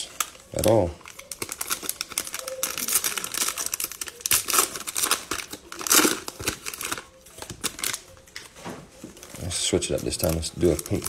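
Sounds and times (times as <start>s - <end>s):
cellophane wrapper crinkling and tearing: 0.0s - 8.6s, 9.2s - 11.0s.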